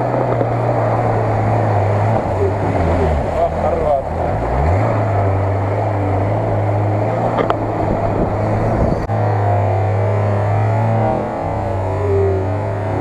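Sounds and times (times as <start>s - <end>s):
engine revving hard: 0.0s - 13.0s
wheels churning through mud: 0.0s - 13.0s.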